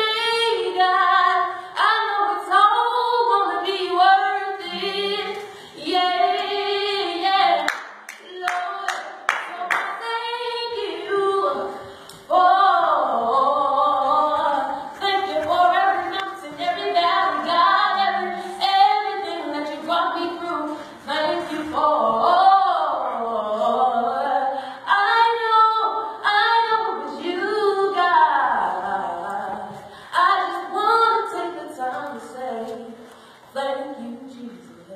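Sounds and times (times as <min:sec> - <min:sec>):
women singing gospel: 0:00.0 - 0:34.9.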